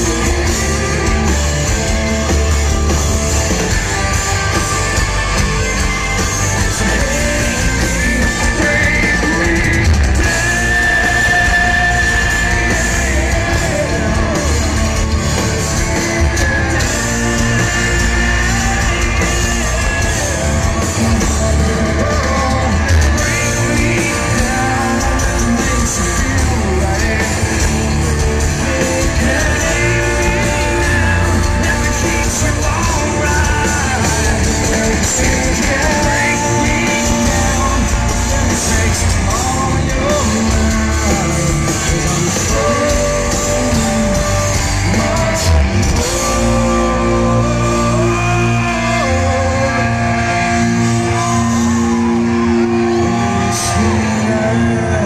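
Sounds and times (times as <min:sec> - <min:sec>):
distorted electric guitars: 0:00.0 - 0:55.0
drums: 0:00.0 - 0:55.0
man singing lead vocal: 0:00.0 - 0:55.0.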